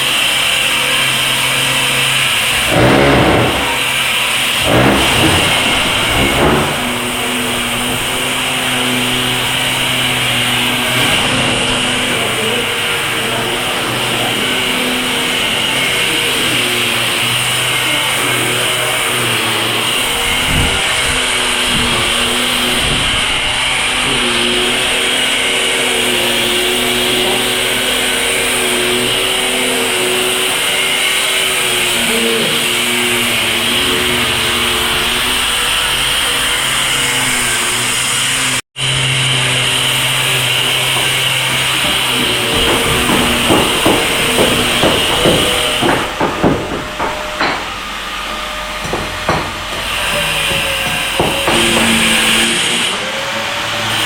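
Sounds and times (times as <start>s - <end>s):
power tool motor running: 0.0s - 54.0s.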